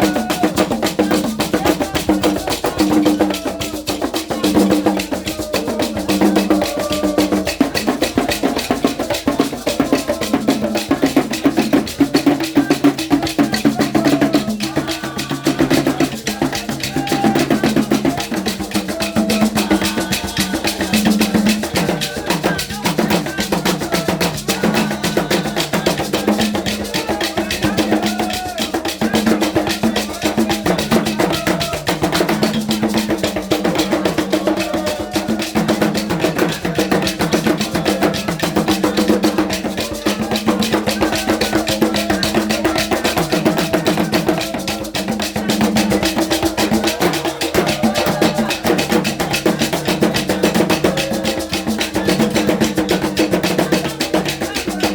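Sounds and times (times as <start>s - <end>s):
fast drum and percussion beats: 0.0s - 54.9s
women singing a lament: 0.0s - 54.9s.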